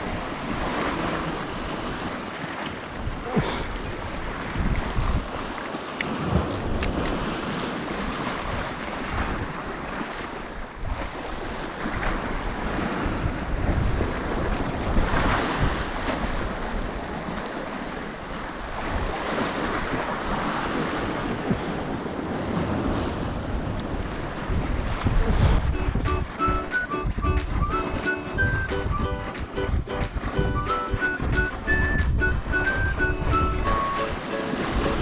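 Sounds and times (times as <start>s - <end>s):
waves breaking on rocky shore: 0.0s - 35.0s
wind rumbling on microphone: 0.0s - 35.0s.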